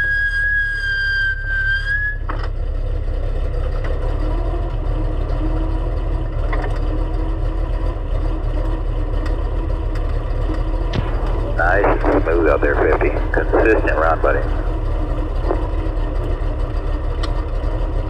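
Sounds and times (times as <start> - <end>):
race car engine idling: 2.3 - 18.0.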